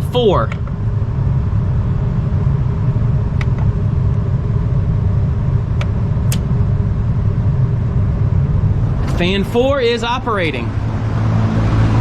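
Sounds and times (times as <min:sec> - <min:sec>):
rooftop unit rumbling and humming: 0:00.0 - 0:12.0.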